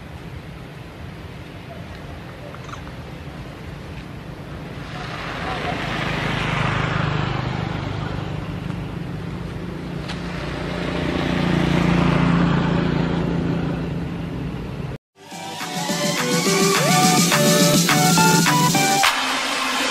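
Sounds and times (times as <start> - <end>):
vehicle engine humming: 2.2 - 19.9.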